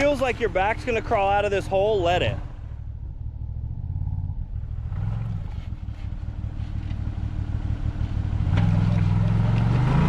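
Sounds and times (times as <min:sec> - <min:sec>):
off-road vehicle engine: 0:00.0 - 0:10.0.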